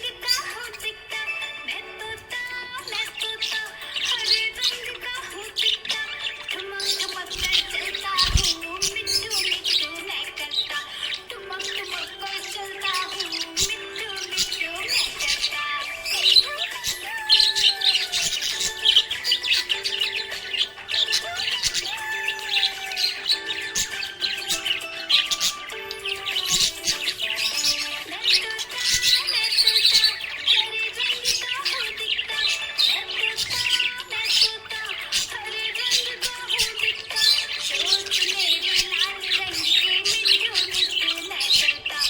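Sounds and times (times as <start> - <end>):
background music with held tones: 0.0 - 42.0
parrots chirping and squawking: 0.0 - 42.0.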